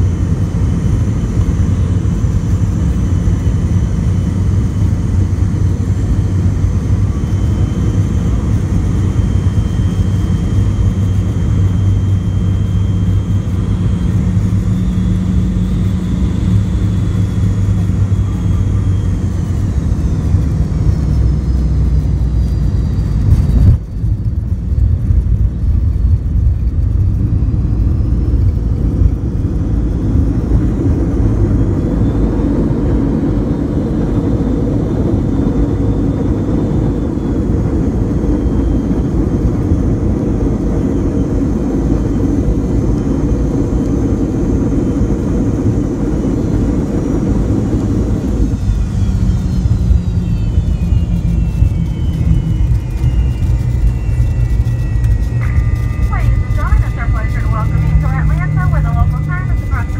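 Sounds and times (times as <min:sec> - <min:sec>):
jet engines with high whine: 0:00.0 - 0:59.9.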